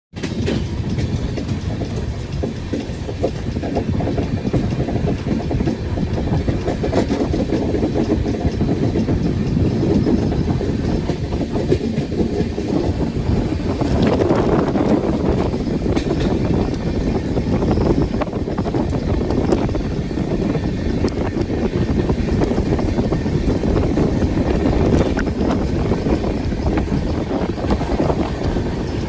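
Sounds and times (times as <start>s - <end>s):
train rumble: 0.1s - 29.0s
wheels clattering over rails: 0.2s - 29.0s.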